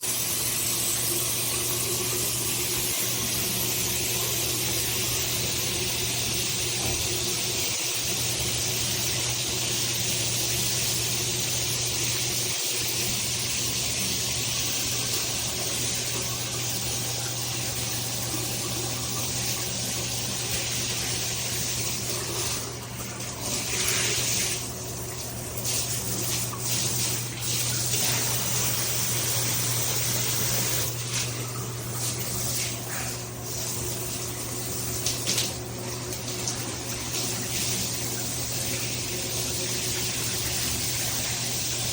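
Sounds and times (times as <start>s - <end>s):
shower head spraying water: 0.0s - 41.9s.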